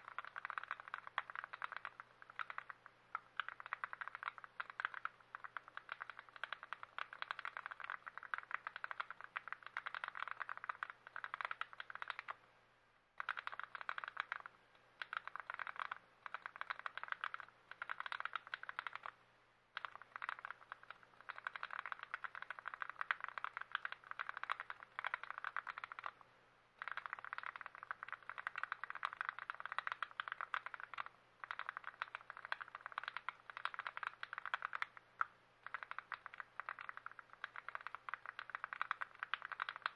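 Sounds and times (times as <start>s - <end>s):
keyboard parts clicking and rattling: 0.0s - 12.3s, 13.2s - 19.1s, 19.8s - 26.2s, 26.8s - 35.0s, 35.6s - 39.9s.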